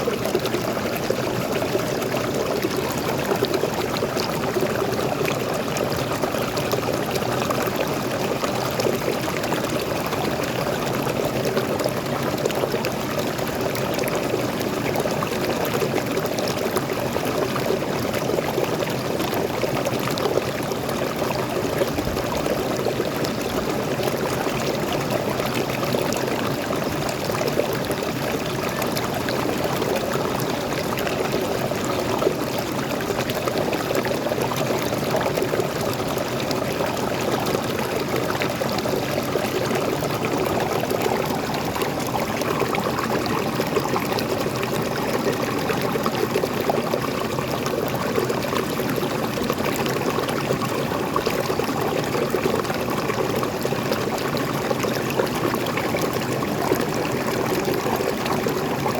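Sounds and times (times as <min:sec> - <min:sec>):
water babbling over rocks: 0:00.0 - 0:58.9.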